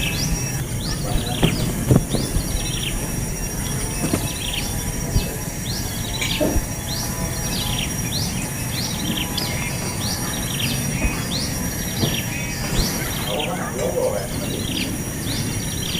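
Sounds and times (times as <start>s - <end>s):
nestling birds chirping: 0.0s - 15.9s.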